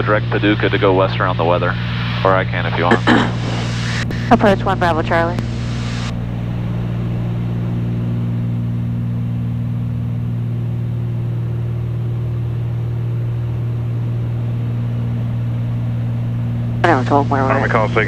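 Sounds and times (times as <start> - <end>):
aircraft cabin engine drone: 0.0 - 18.0.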